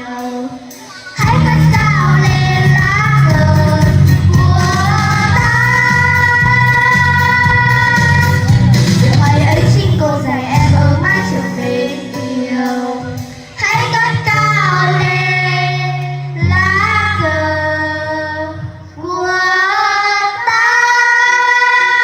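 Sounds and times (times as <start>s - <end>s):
child singing: 0.0s - 22.0s
musical backing track: 0.0s - 22.0s.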